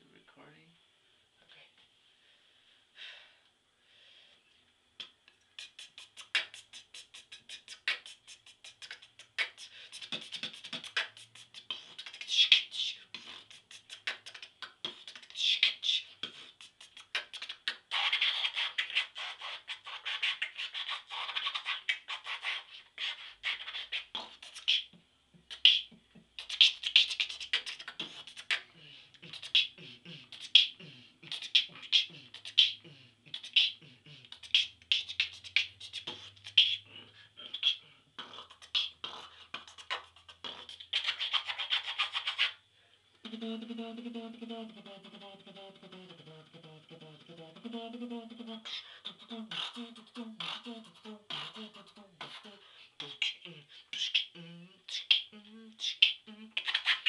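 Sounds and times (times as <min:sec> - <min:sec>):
beatboxing: 0:05.0 - 0:42.6, 0:43.2 - 0:57.0.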